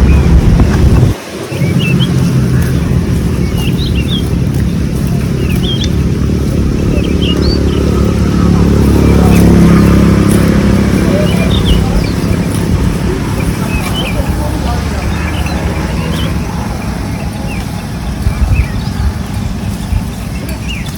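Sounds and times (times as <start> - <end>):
birds chirping: 0.0 - 20.9
low engine rumble: 0.0 - 20.9.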